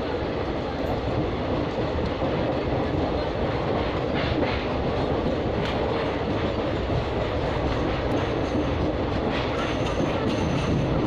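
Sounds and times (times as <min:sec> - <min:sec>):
train wheels rumbling on rails: 0:00.0 - 0:11.0
wheel clacks: 0:01.7 - 0:11.0.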